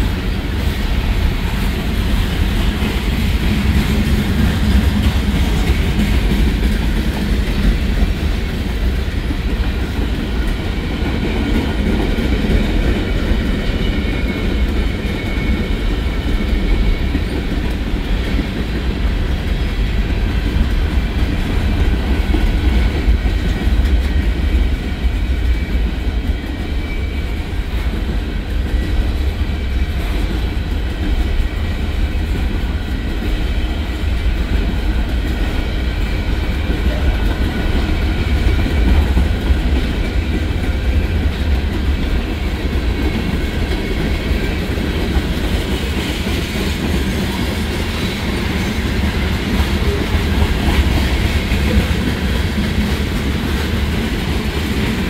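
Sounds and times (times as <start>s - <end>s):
clickety-clack over rail joints: 0.0s - 55.0s
train wheels rumbling on rail: 0.0s - 55.0s.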